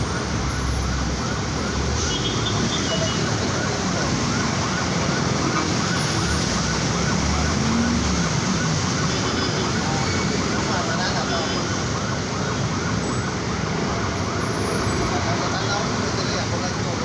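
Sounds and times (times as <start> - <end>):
traffic driving through floodwater: 0.0 - 17.0.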